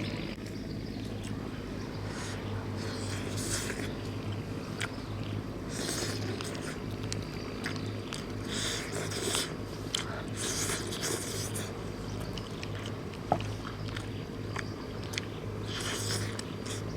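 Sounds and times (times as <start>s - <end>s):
low hum: 0.0s - 16.9s
person chewing crunchy food: 2.0s - 16.9s.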